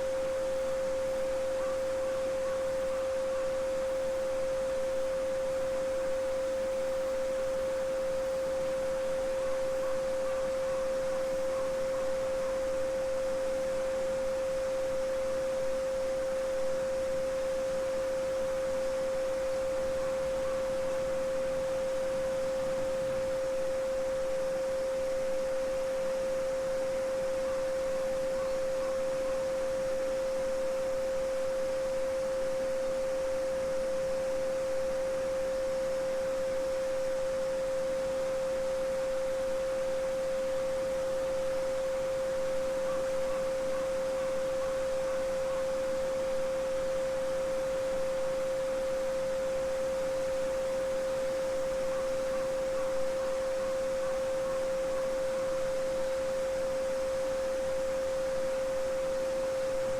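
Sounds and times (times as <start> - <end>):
steady sine tone: 0.0 - 59.9.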